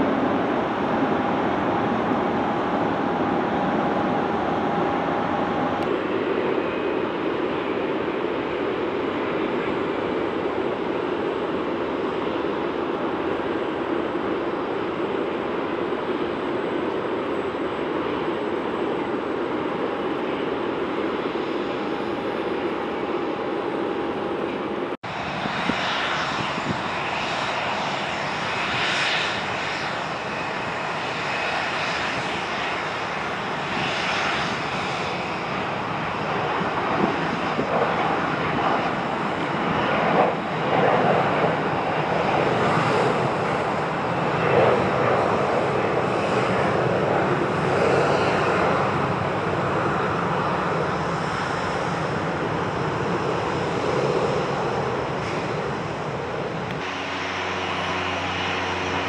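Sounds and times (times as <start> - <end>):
jet airliner engines whining: 0.0 - 59.0
jet climbing after takeoff: 0.0 - 59.0.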